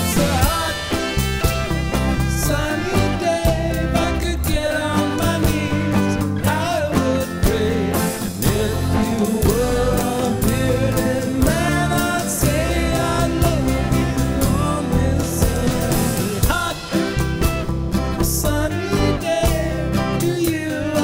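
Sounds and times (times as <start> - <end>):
band playing with steady beat: 0.0 - 21.0
person singing: 0.0 - 21.0.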